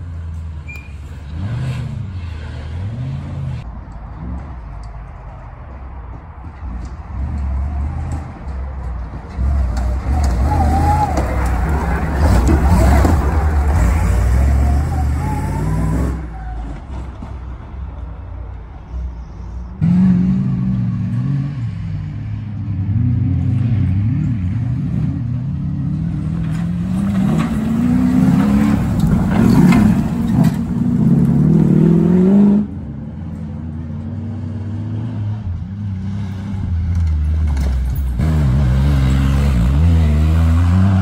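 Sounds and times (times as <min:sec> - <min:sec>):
off-road vehicle engine revving: 0:00.0 - 0:04.5, 0:09.3 - 0:17.0, 0:19.8 - 0:41.0.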